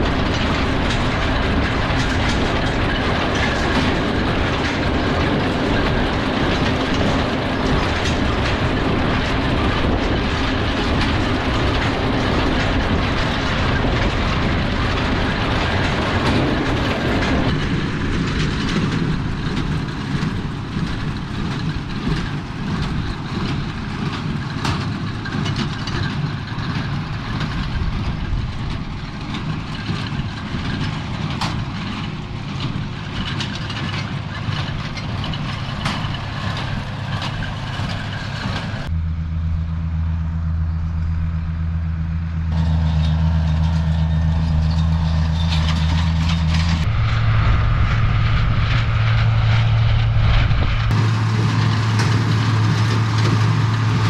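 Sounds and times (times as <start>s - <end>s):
baler clattering and clicking: 0.0s - 38.9s, 42.5s - 46.9s
tractor engine hum: 0.0s - 54.0s.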